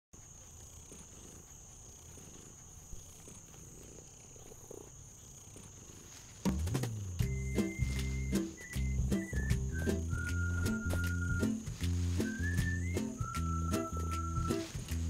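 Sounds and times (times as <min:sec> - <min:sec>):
cricket trill: 0:00.2 - 0:15.0.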